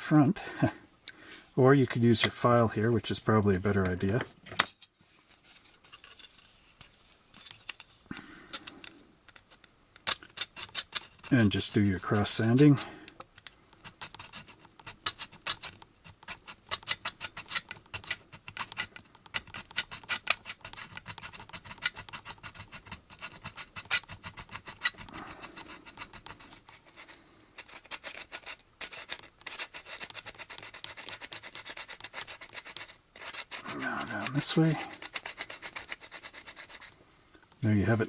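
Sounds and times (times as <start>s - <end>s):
hand file scraping plastic: 5.3s - 37.0s.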